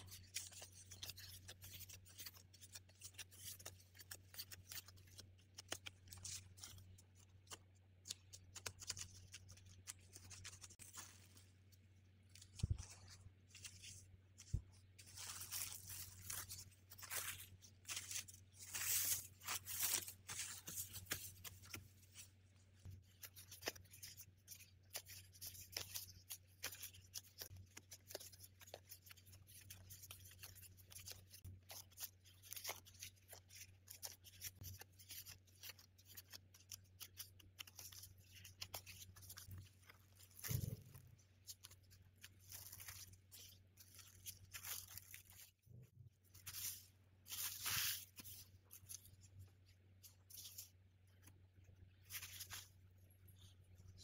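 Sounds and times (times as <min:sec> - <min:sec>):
thin plastic crinkling: 0:00.0 - 0:54.0.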